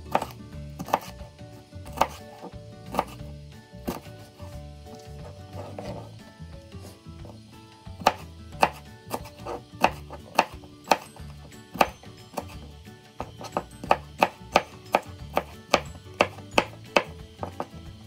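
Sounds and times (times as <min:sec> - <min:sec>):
knife chopping on cutting board: 0:00.0 - 0:03.2, 0:03.8 - 0:06.2, 0:08.0 - 0:17.8.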